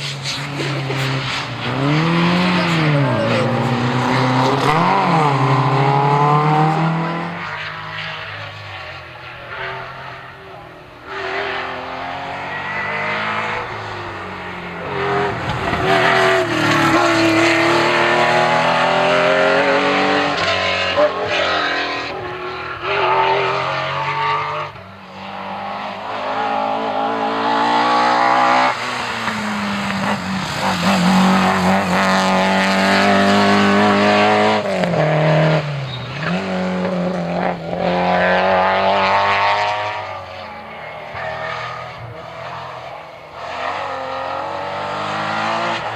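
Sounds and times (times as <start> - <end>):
rally car engines revving hard: 0.0 - 45.9.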